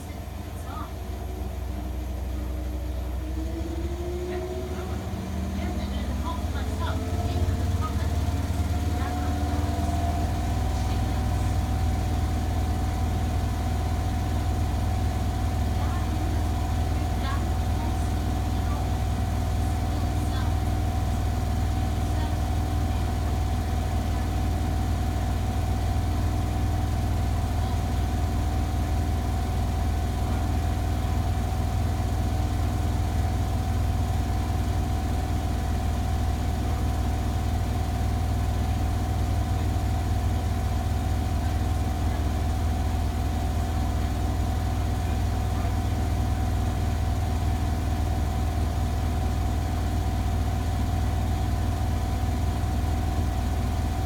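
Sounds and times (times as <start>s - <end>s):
washing machine humming: 0.0s - 54.0s.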